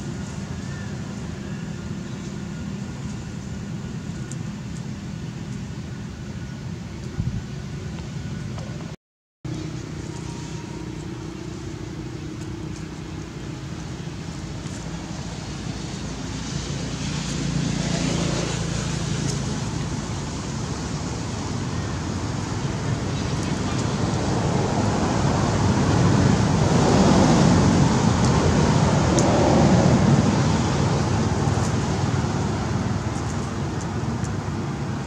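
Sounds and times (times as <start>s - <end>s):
rumbling outdoor background noise: 0.0s - 35.0s.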